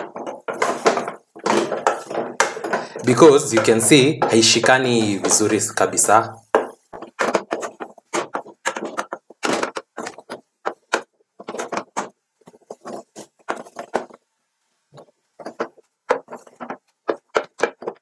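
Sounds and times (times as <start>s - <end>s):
wooden spoon scraping saucepan: 0.0s - 14.2s, 14.9s - 18.0s.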